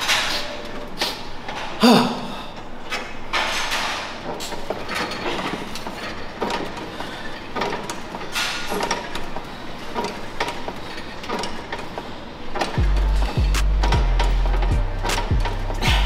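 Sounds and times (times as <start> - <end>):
weight machine clanking: 0.0 - 16.0.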